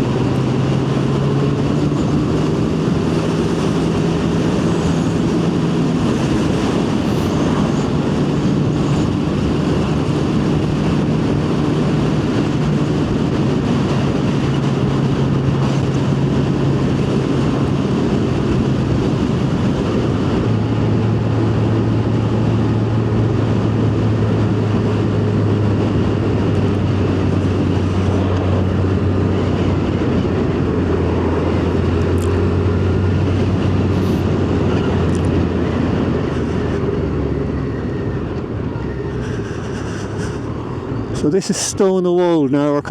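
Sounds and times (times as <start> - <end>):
motorcycle engine running: 0.0 - 41.4
wind and road noise: 0.0 - 42.9.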